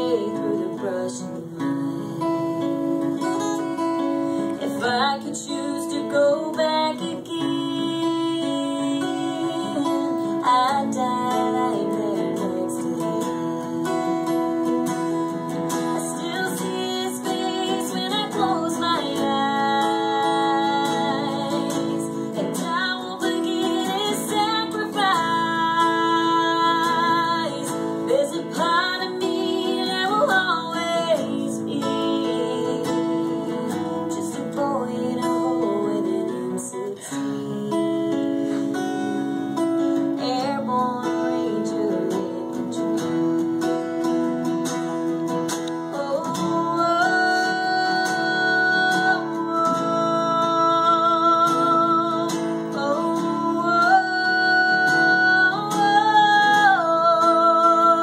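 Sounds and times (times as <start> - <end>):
acoustic guitar strummed: 0.0 - 58.0
woman singing country song: 0.0 - 58.0.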